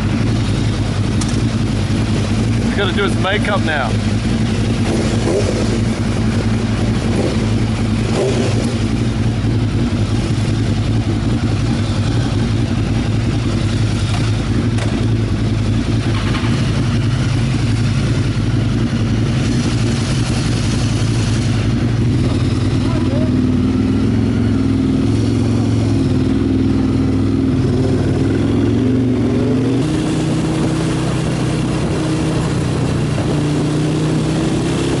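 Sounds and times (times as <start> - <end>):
motorcycle engine running: 0.0 - 35.0
steady rushing noise: 0.0 - 35.0.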